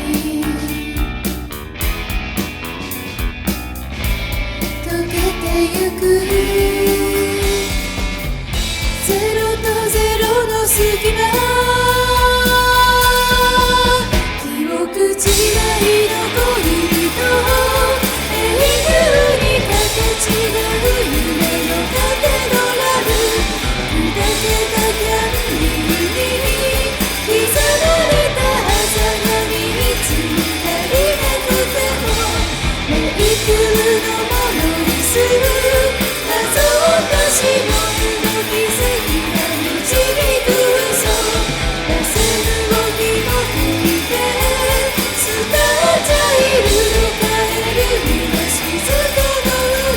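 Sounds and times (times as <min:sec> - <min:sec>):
rock band playing: 0:00.0 - 0:49.9.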